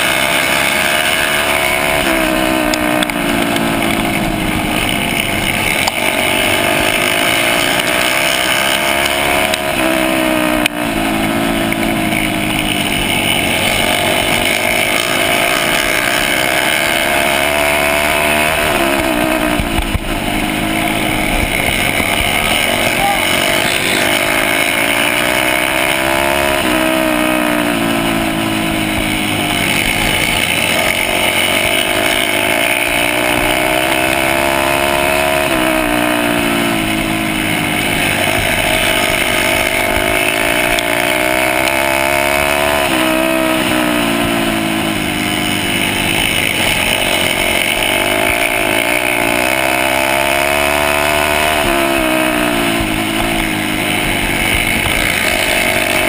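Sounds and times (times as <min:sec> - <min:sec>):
dirt bike engine racing: 0:00.0 - 0:56.0.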